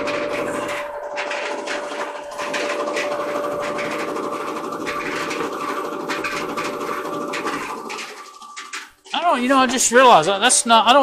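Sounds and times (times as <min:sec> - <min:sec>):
fast continuous rattle: 0:00.0 - 0:09.3
clothes dryer humming: 0:00.0 - 0:11.0.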